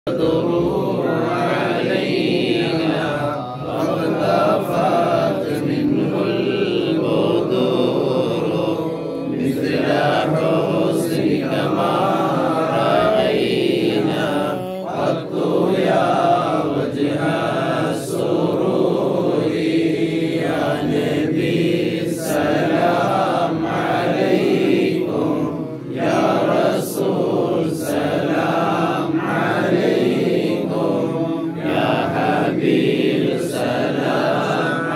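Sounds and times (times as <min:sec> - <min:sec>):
men chanting devotional verses: 0:00.0 - 0:34.9.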